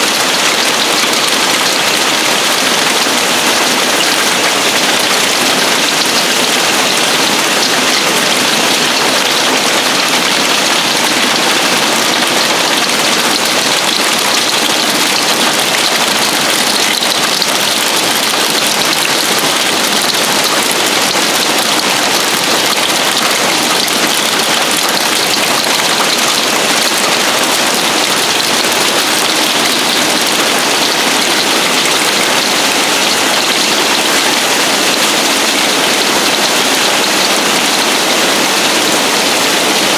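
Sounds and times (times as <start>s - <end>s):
hail on a roof: 0.0s - 39.9s.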